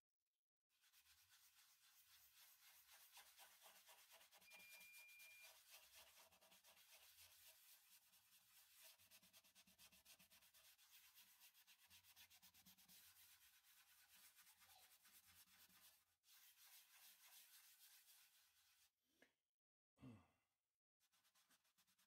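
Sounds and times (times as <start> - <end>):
paper towel rubbing wood: 0.8 - 18.9, 21.0 - 22.0.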